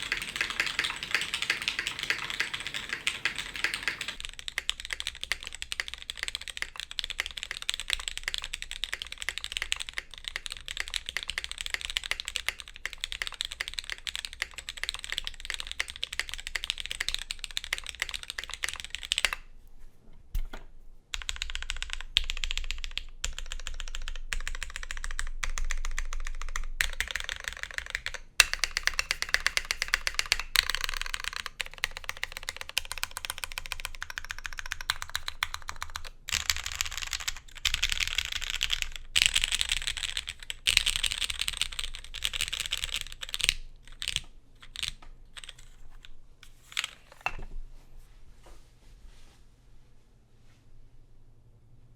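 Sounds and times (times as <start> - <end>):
mechanical keyboard typing: 0.0 - 19.4, 21.1 - 46.1.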